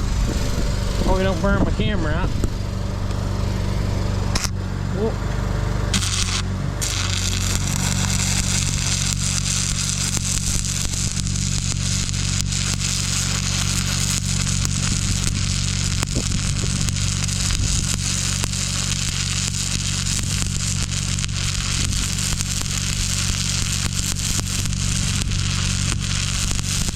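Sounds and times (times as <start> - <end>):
welding arc crackling and sizzling: 0.0 - 4.6, 5.9 - 26.9
low hum: 0.0 - 26.9.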